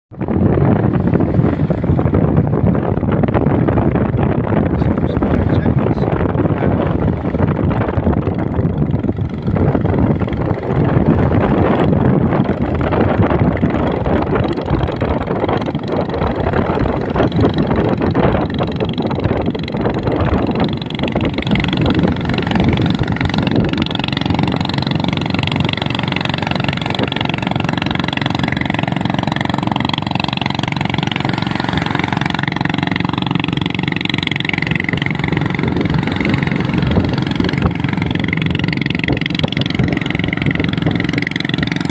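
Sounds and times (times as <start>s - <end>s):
rushing wind and water: 0.1s - 41.9s
watercraft engine running: 0.1s - 41.9s.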